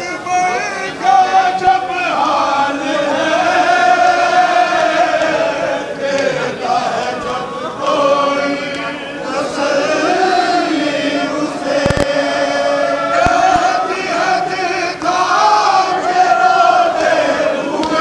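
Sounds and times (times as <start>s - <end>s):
crowd of men chanting: 0.8s - 18.0s.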